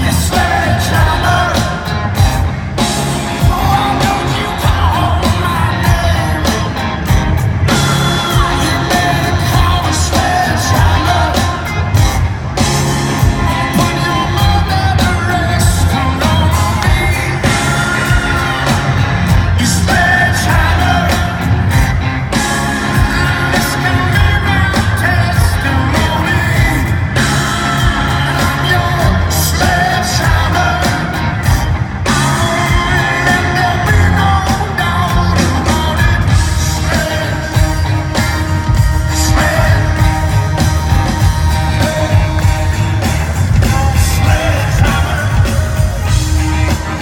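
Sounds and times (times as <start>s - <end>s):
crowd yelling: 0.0s - 47.0s
live rock band with vocals: 0.0s - 47.0s.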